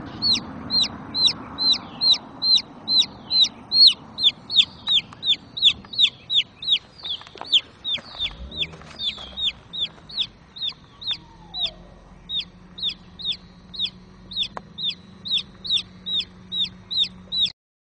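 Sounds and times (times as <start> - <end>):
baby chick peeping: 0.0 - 17.6.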